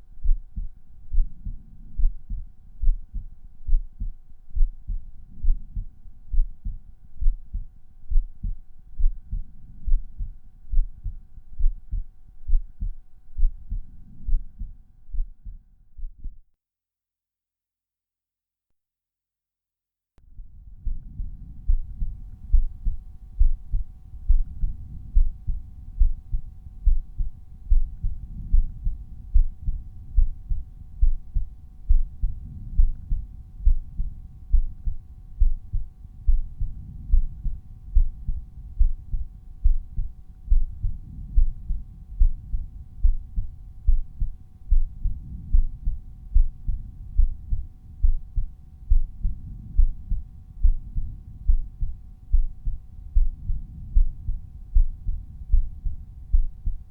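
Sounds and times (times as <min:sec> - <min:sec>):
heartbeat thumps: 0:00.0 - 0:16.4, 0:20.4 - 0:56.9
faint steady hum: 0:00.0 - 0:16.5, 0:20.2 - 0:56.9.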